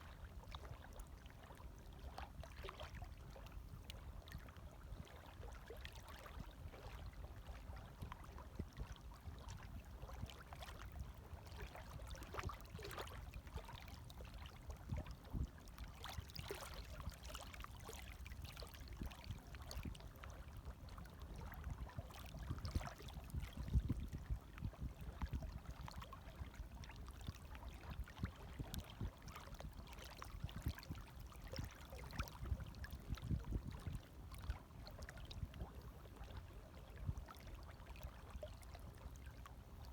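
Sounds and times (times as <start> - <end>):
small waves lapping: 0.2 - 24.2, 24.9 - 39.9.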